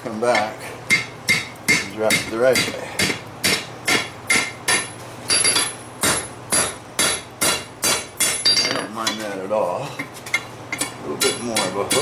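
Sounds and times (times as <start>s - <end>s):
hammer striking steel on anvil: 0.3s - 9.2s, 10.8s - 12.0s.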